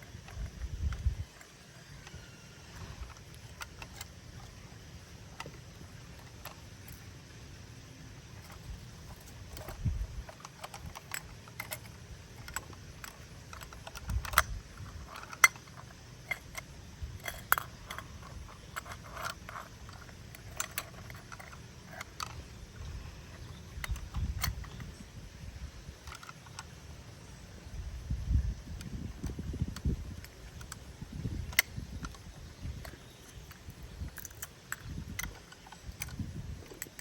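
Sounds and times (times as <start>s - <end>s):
plastic toy clicks and clatter: 0.1s - 4.6s, 8.4s - 25.0s, 25.9s - 26.8s, 28.8s - 37.0s.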